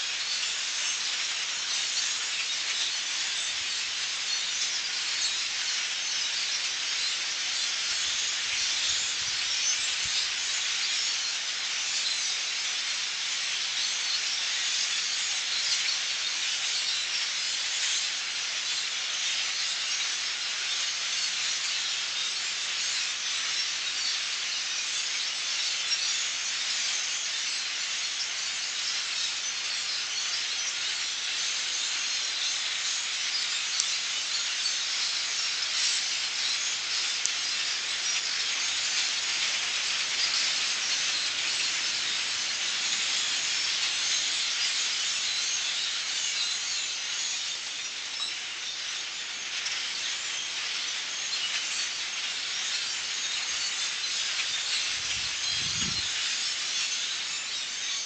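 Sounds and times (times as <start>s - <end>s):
flock of small birds calling: 0.0s - 58.0s.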